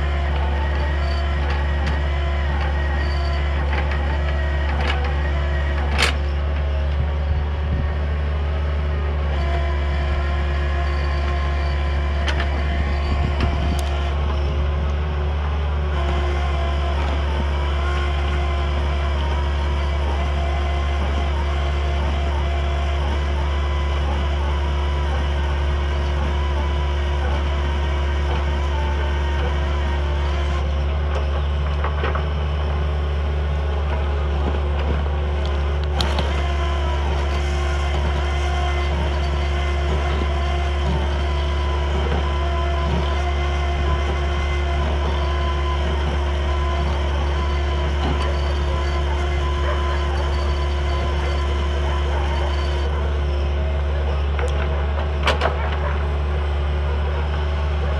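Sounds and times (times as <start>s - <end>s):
diesel engine running under load: 0.0s - 57.9s
hydraulic drill whine: 0.0s - 57.9s.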